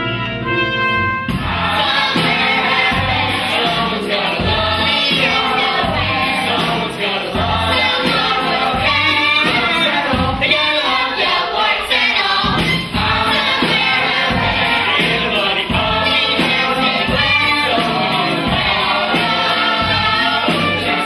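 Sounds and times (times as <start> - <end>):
musical accompaniment: 0.0 - 21.0
chorus singing: 1.3 - 21.0.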